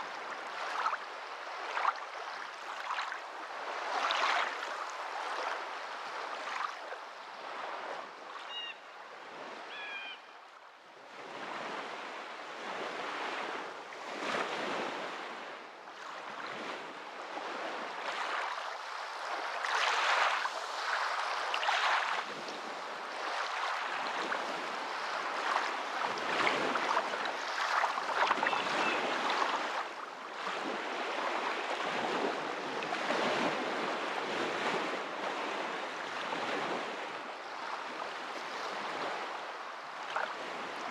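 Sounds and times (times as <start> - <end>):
waves washing in and out: 0.0 - 40.9.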